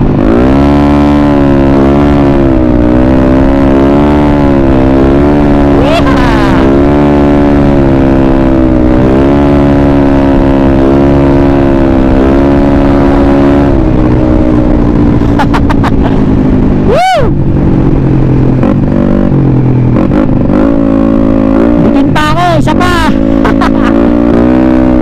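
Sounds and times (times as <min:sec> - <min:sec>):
scooter engine revving: 0:00.0 - 0:25.0.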